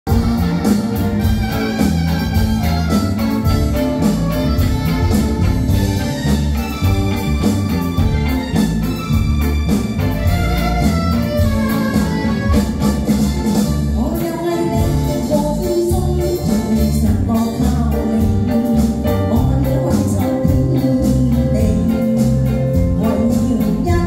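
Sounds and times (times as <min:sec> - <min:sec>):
live band playing: 0:00.1 - 0:24.0.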